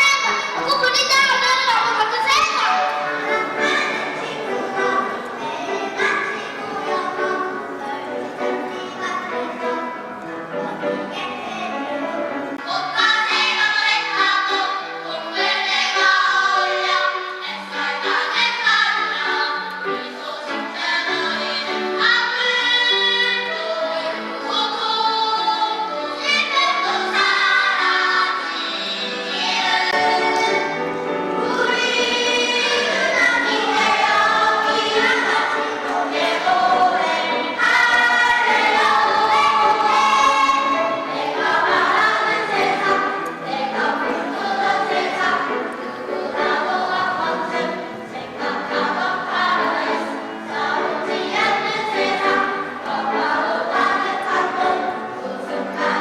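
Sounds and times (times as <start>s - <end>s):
children's choir singing: 0.0s - 56.0s
musical accompaniment: 0.0s - 56.0s.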